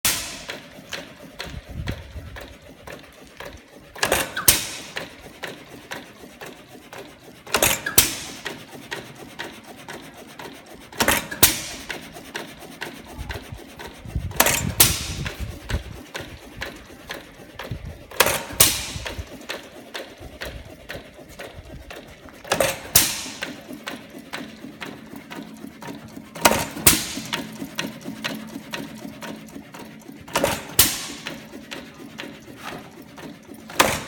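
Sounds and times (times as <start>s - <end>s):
engine mechanical clicking: 0.1s - 34.0s.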